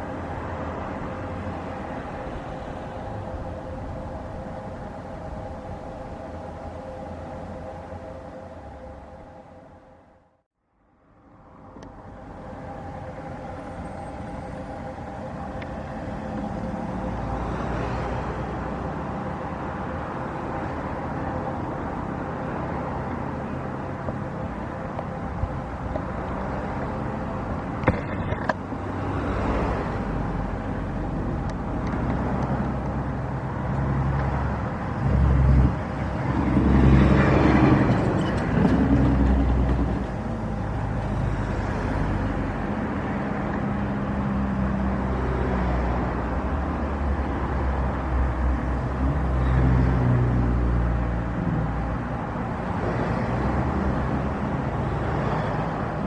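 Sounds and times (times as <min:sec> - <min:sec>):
engine humming: 0:00.0 - 0:45.4.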